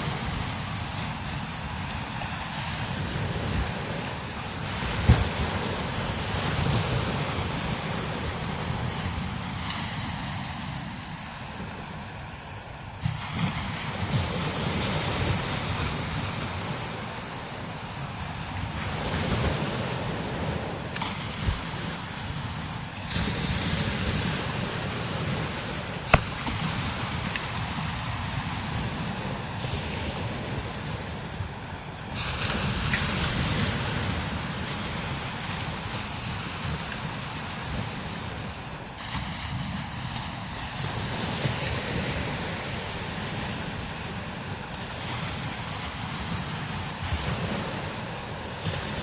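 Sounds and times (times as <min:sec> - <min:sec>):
strong wind blowing in gusts: 0:00.0 - 0:49.0.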